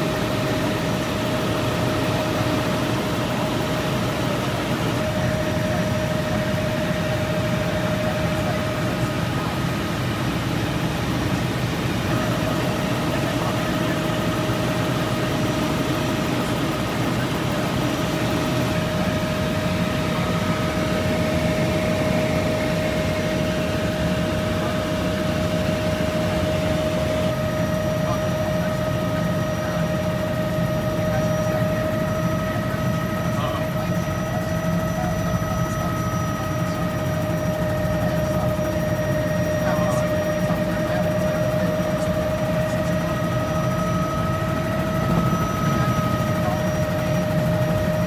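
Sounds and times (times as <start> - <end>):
helicopter engine and rotor drone: 0.0 - 48.0
steady whine: 0.0 - 48.0.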